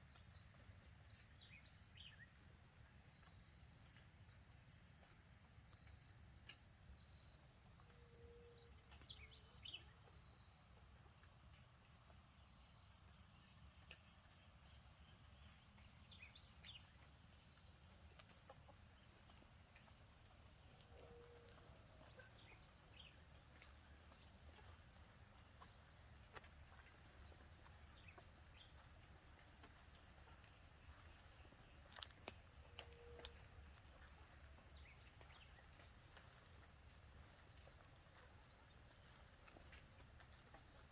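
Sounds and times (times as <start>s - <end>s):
pulsing cricket chirp: 0.0s - 40.9s
crickets trilling: 5.8s - 40.9s.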